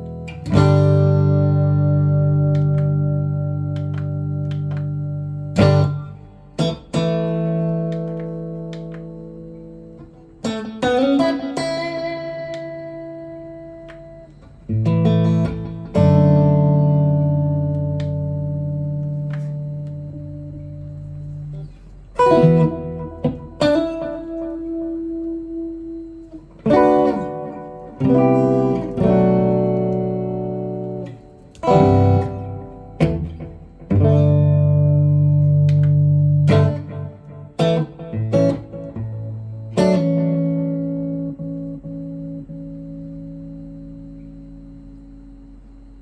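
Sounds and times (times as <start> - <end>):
electric guitar chords and notes: 0.0 - 46.0.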